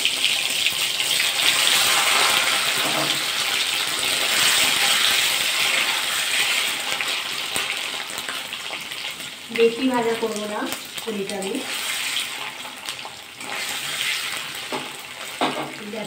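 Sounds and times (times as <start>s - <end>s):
cheese cubes sizzling in oil: 0.0s - 16.0s.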